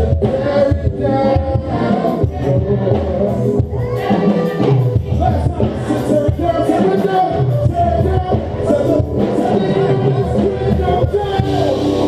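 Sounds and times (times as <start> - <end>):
bass: 0.0 - 12.0
live band playing: 0.0 - 12.0
steady drum beat: 0.0 - 12.0.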